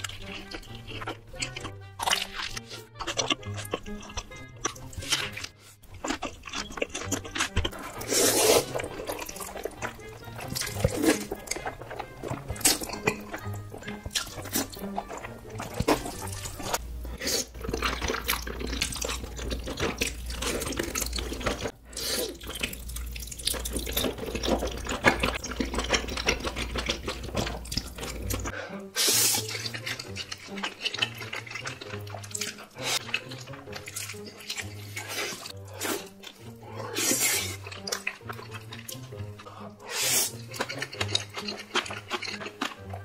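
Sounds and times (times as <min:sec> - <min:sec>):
wet chewing and slurping: 0:00.0 - 0:43.0.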